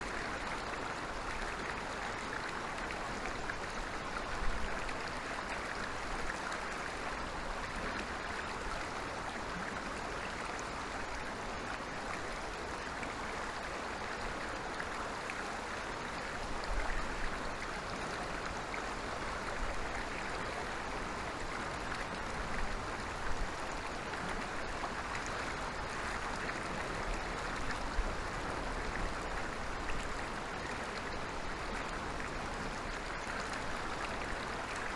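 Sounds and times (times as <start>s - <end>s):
stream water rushing and babbling: 0.0s - 34.9s.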